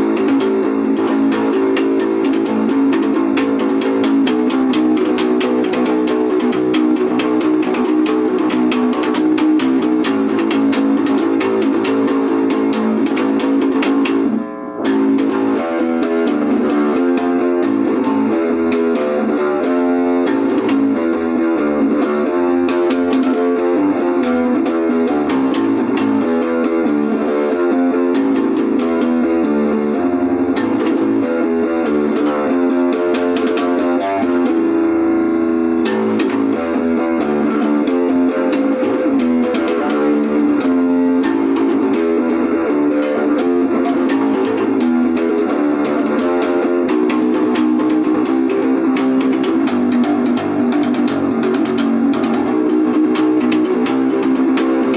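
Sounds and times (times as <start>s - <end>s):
quickly plucked guitar notes: 0.0s - 54.9s.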